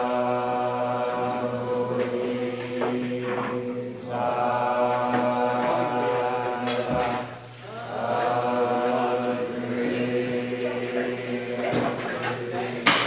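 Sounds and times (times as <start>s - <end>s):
monotone chanting: 0.0s - 13.0s.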